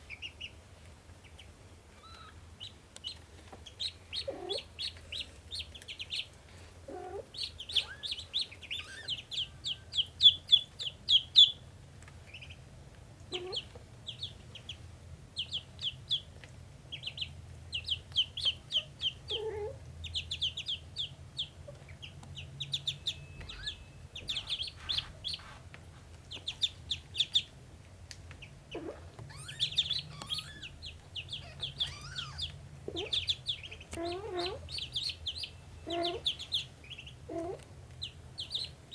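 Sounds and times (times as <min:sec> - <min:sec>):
ducklings peeping: 0:00.0 - 0:38.9
faint low hum: 0:00.0 - 0:38.9.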